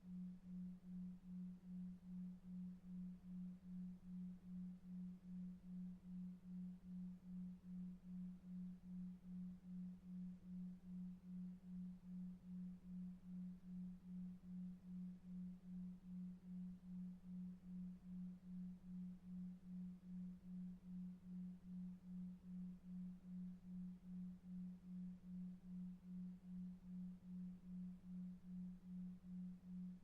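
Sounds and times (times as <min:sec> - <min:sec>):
low pulsing pure tone: 0:00.0 - 0:30.0.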